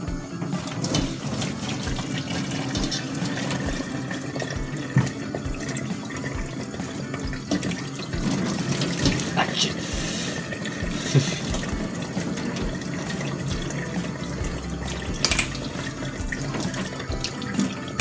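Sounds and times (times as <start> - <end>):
water pouring and splashing: 0.0 - 18.0.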